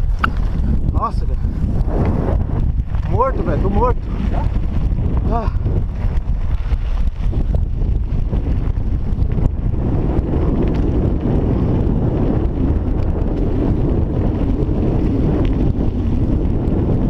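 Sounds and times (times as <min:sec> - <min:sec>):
bike tyres rolling on gravel: 0:00.0 - 0:17.0
wind buffeting microphone: 0:00.0 - 0:17.0.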